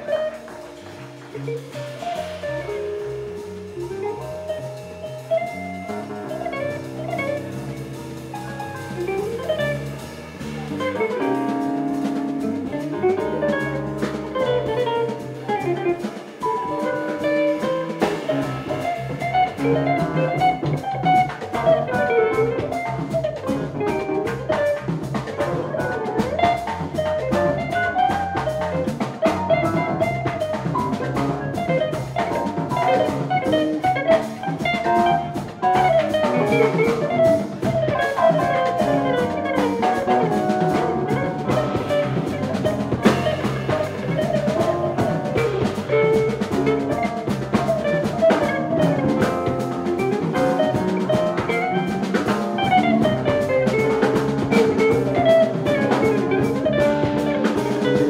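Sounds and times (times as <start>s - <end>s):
cymbals: 0.0s - 58.0s
jazz band playing blues: 0.0s - 58.0s.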